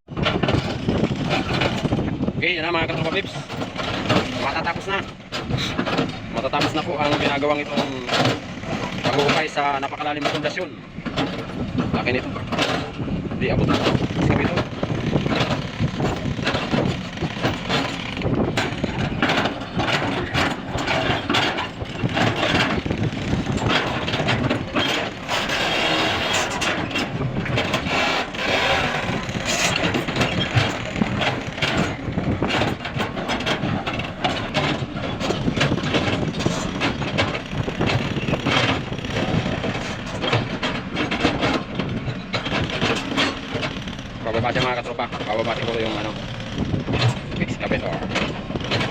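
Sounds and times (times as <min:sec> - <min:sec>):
excavator engine: 0:00.1 - 0:48.9.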